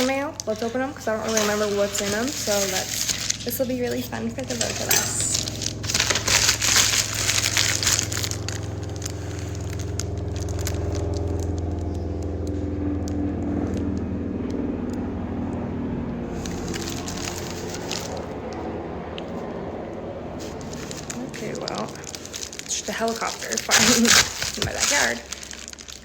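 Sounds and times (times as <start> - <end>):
package wrapping crinkling: 0.0 - 14.0, 16.3 - 18.4, 20.4 - 26.0
helicopter drone: 0.0 - 25.4.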